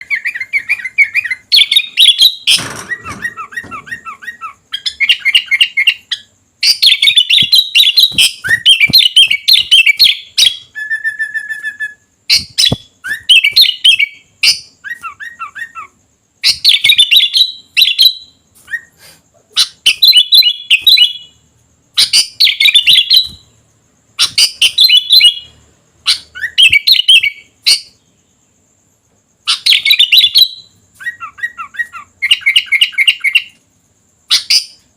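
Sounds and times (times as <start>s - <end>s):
bird steady whistle: 0.0s - 23.6s, 24.2s - 28.5s, 29.4s - 33.6s
bird rapid chirping song: 0.0s - 28.7s, 29.4s - 34.9s.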